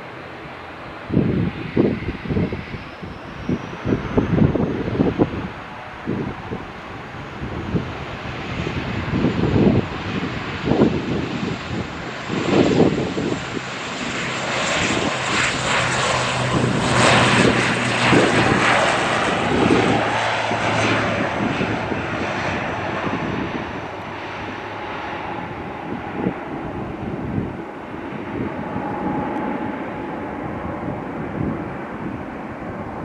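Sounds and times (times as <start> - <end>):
airliner engine passing: 0.0 - 33.0.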